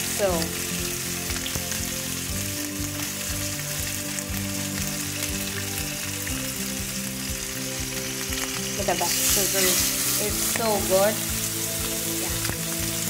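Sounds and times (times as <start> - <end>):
fish sizzling in oil: 0.0 - 13.0
quiet background music: 0.0 - 13.0.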